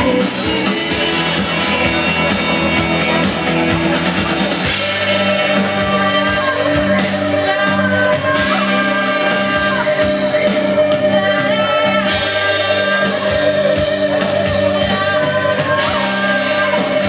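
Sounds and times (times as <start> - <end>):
long held bass notes: 0.0 - 17.0
music with singing and steady beat: 0.0 - 17.0.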